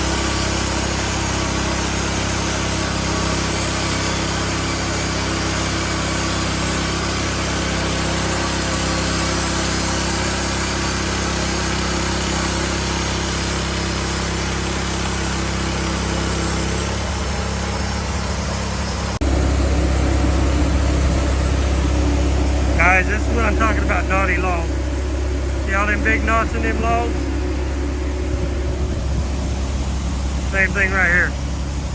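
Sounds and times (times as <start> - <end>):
band sawmill cutting a log: 0.0 - 31.9.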